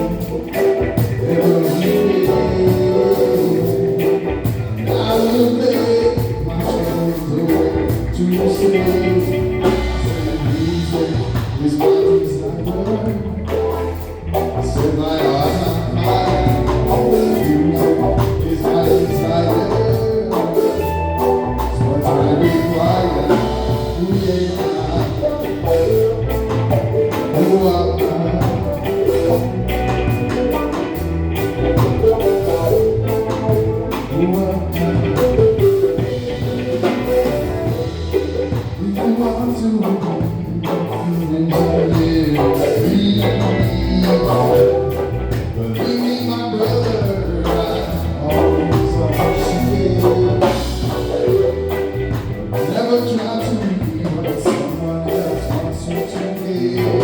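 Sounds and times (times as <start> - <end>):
live band music: 0.0 - 57.0
person singing: 0.0 - 57.0.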